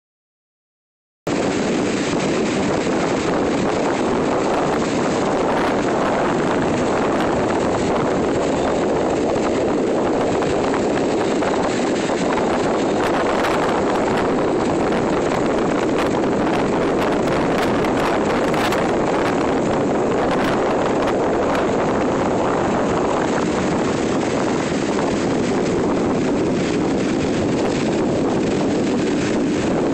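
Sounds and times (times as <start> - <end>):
waves washing on shore: 1.3 - 29.9
wind buffeting microphone: 1.3 - 29.9.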